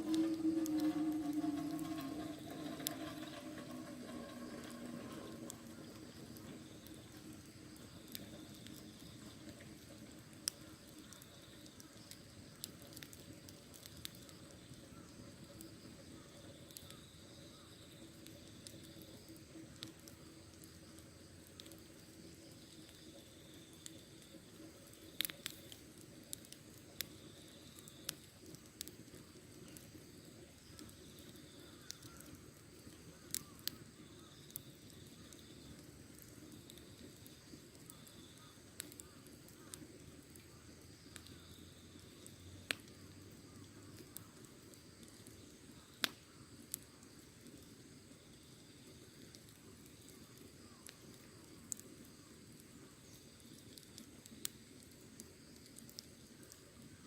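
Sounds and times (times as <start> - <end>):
low hiss of burning: 0.0 - 57.0
wood fire crackling: 0.0 - 57.0.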